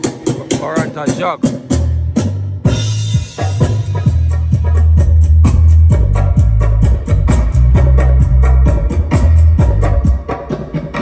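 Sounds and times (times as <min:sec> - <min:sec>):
heavy bass line: 0:00.0 - 0:10.6
drum beat: 0:00.0 - 0:11.0.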